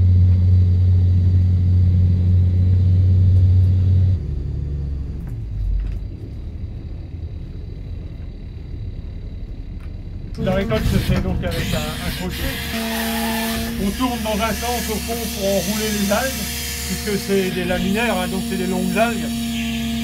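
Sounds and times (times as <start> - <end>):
boat diesel engine droning: 0.0 - 20.0.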